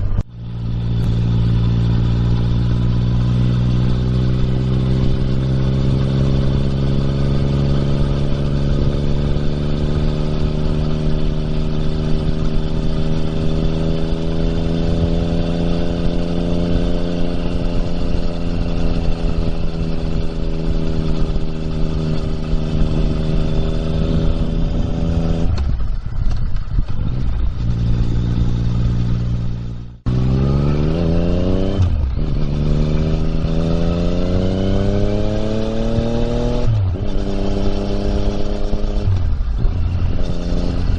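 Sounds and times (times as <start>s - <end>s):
motorcycle accelerating through gears: 0.0s - 40.9s
motorcycle engine cruising: 0.0s - 40.9s.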